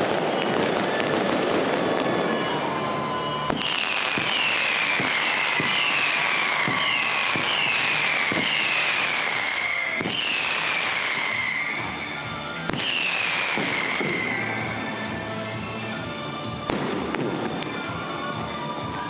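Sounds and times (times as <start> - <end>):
firework whistles: 0.0 - 16.0.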